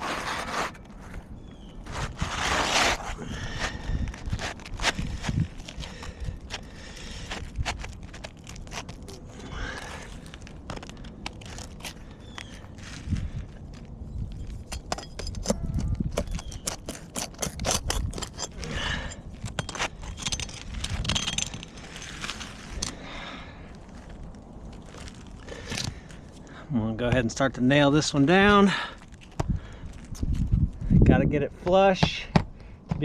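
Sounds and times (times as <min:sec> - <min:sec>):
shingle scraping and crackling: 0:00.0 - 0:30.9.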